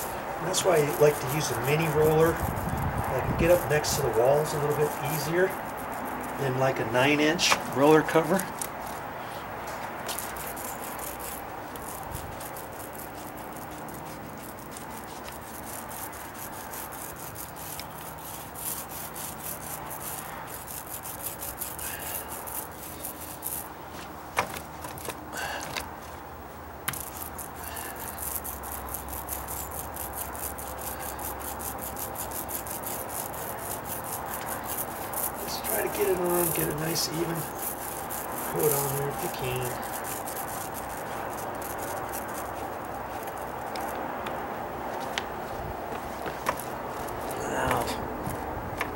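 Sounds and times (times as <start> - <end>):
paint roller rubbing on wood: 0.0 - 24.2, 26.9 - 48.9.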